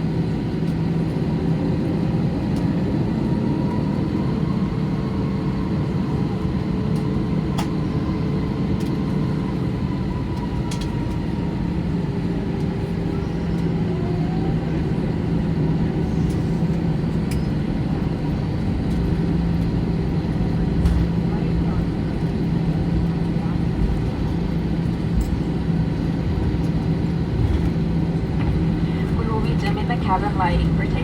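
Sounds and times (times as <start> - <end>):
airplane cabin engine drone: 0.0 - 31.0.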